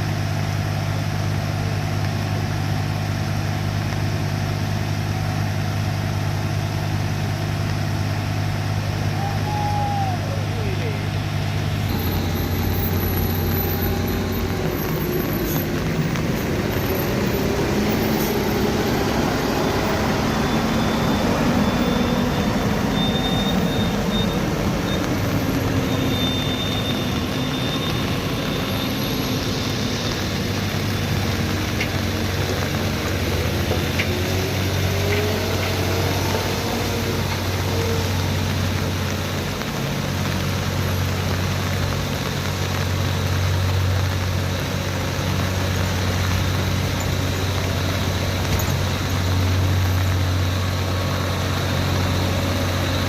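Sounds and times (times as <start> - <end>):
road noise: 0.0 - 53.0
heavy truck engine under load: 10.3 - 53.0.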